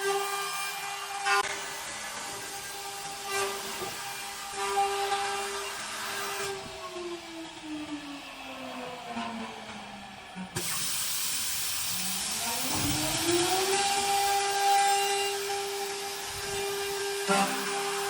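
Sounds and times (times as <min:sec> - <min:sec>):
machine spindle whine: 0:00.0 - 0:18.0.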